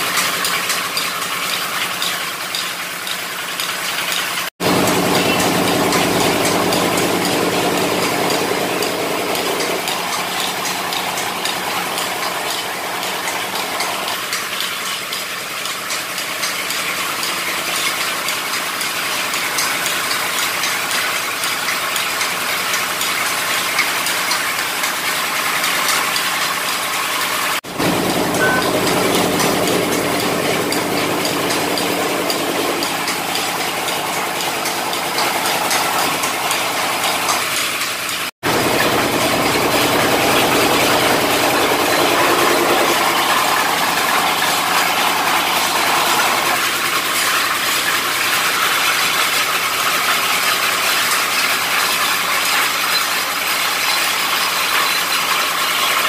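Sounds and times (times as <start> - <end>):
drilling rig engine running: 0.0 - 18.6, 26.1 - 56.0
clatter of pulleys and belts: 0.0 - 56.0.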